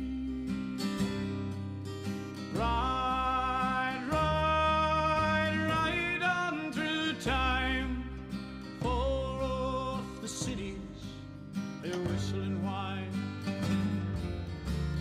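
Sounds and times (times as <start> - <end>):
country-western instrumental music: 0.0 - 15.0.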